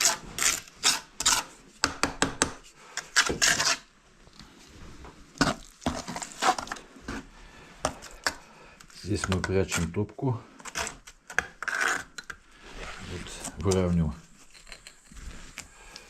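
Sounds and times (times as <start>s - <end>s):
brick and mortar scraping: 0.0s - 1.8s, 3.0s - 3.9s, 5.4s - 16.0s.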